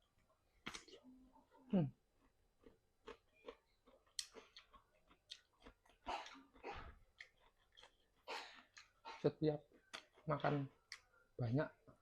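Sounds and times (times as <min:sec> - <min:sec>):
person chewing food: 0:00.0 - 0:11.3.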